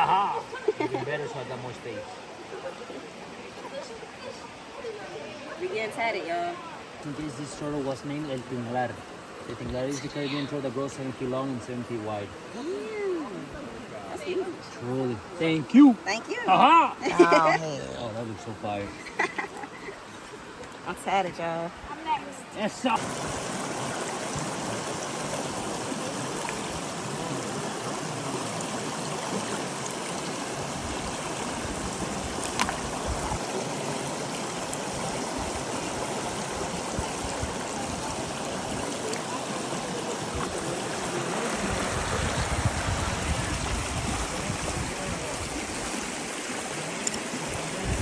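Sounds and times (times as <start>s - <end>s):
stream water rushing: 0.0s - 48.0s.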